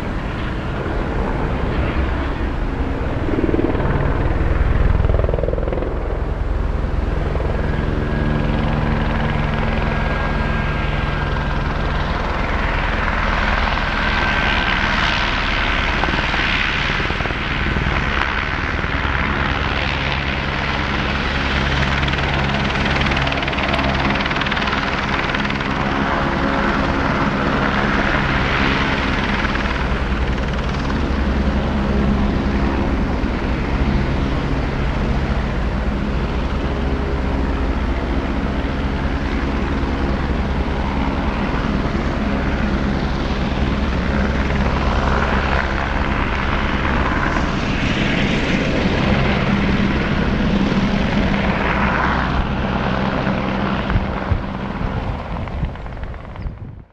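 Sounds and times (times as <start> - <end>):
helicopter hovering: 0.0 - 56.9.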